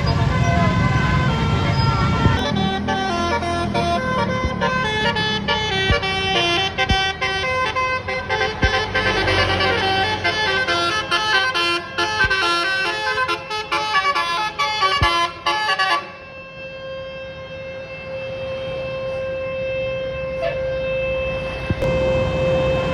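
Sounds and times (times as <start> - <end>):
musical bus horn playing a tune: 0.0 - 17.1, 18.4 - 22.9.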